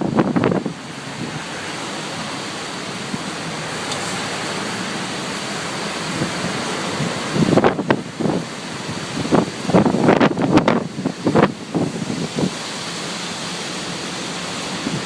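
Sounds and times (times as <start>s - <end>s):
wind-driven rain: 0.0s - 15.0s.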